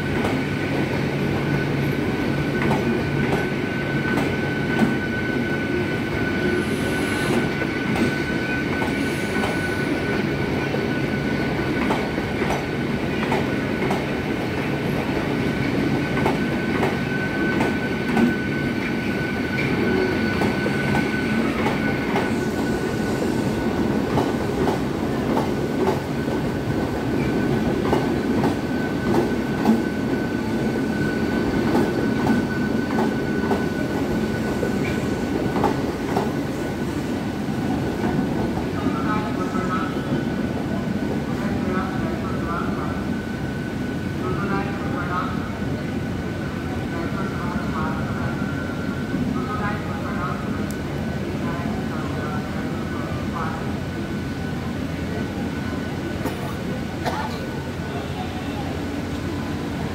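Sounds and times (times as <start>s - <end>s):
electric train whine: 0.0s - 56.8s.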